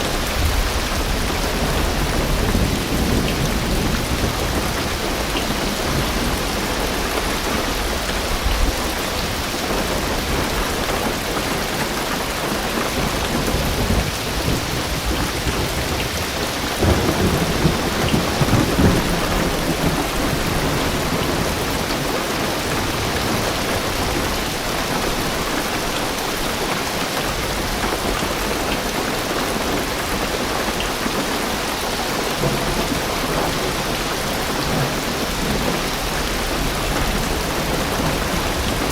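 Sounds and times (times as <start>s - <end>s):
thunder rumbling: 0.0s - 26.5s, 27.3s - 38.9s
heavy rain on a car roof: 0.0s - 38.9s.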